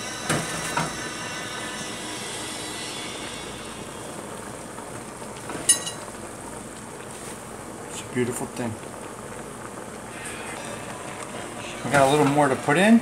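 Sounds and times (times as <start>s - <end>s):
greens sizzling in hot oil: 0.0s - 13.0s.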